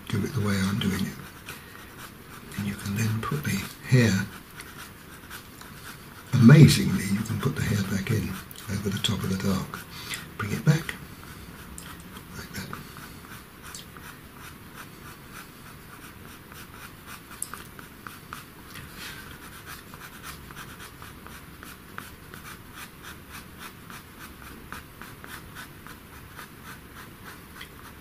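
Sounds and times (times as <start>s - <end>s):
pencil scratching on paper: 0.1s - 28.0s.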